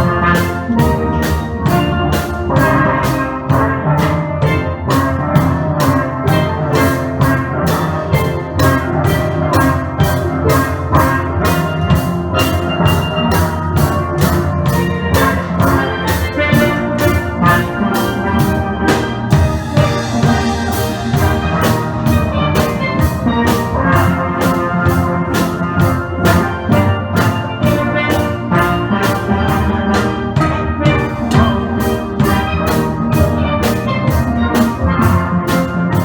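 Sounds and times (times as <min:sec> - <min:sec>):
steady drum beat: 0:00.0 - 0:36.0
steel band playing: 0:00.0 - 0:36.0.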